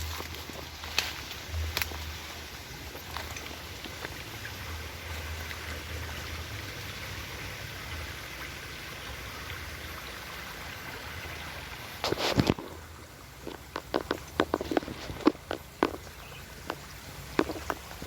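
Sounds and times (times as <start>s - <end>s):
stream rushing: 0.0s - 18.0s.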